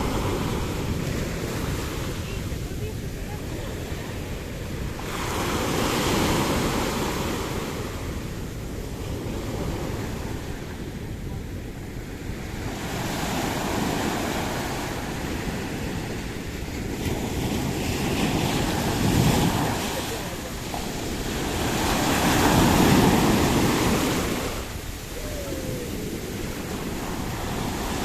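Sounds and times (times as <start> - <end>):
sea waves washing ashore: 0.0 - 28.0
wind buffeting microphone: 0.0 - 28.0.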